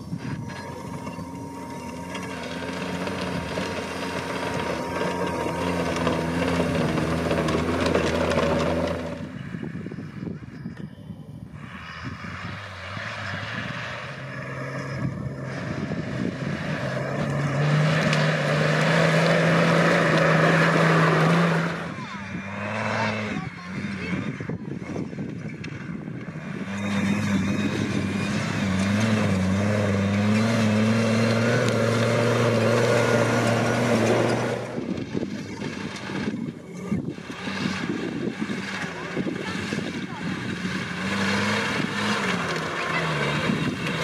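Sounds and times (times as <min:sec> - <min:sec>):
off-road engines revving hard: 0:00.0 - 0:10.8, 0:11.4 - 0:44.0
gravel and tyre noise: 0:00.0 - 0:44.0.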